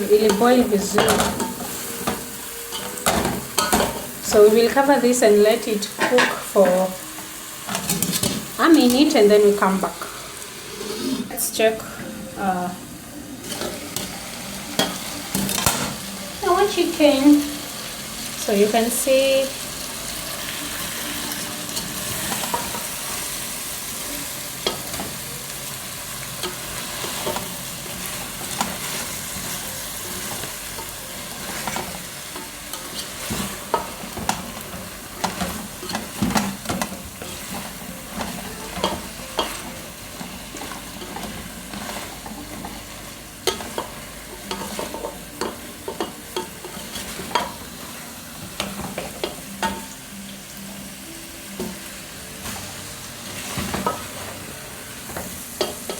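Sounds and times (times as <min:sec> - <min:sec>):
chicken sizzling in a pot: 0:00.0 - 0:55.9.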